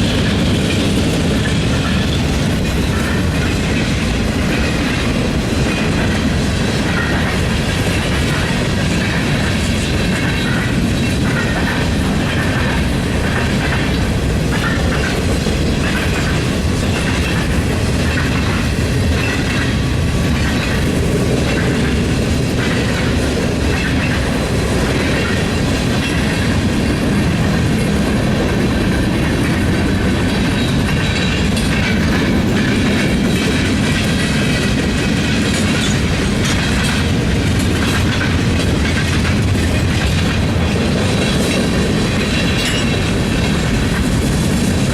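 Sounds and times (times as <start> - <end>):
train wheels rumbling on rail: 0.0 - 44.9
wheels clacking over rail joints: 0.0 - 44.9.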